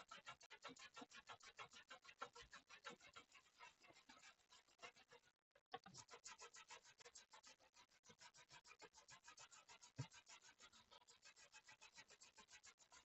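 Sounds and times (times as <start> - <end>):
toothbrush scrubbing circuit board: 0.0 - 5.2, 5.8 - 13.0.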